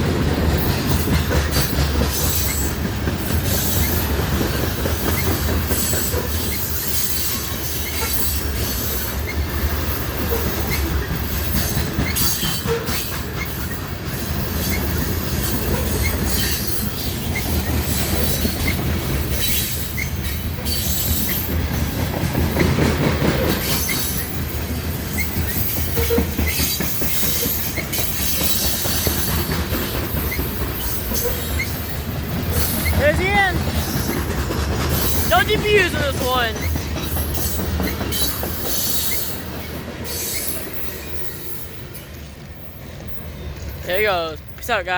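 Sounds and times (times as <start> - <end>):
freight train rumbling past: 0.0 - 44.9
wheels clicking over rails: 0.0 - 44.9
wheel squeals: 0.5 - 35.5, 36.5 - 44.0.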